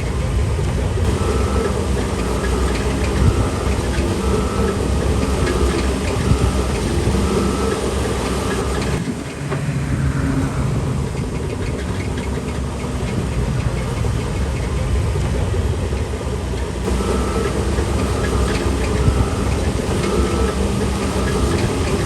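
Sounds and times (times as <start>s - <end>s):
heavy diesel machinery engines: 0.0s - 22.0s.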